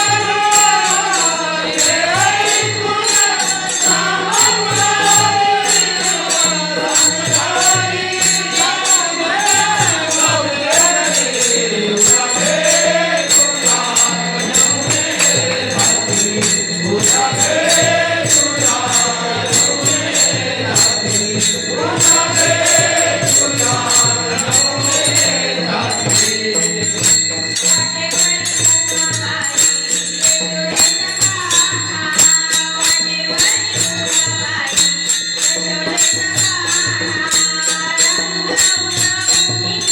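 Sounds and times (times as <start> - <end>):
jingling hand percussion: 0.0 - 39.9
woman singing: 0.0 - 39.9.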